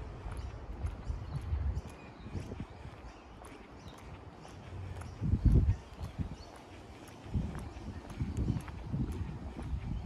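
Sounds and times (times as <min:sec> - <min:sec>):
faint footsteps outdoors: 0:00.0 - 0:10.0.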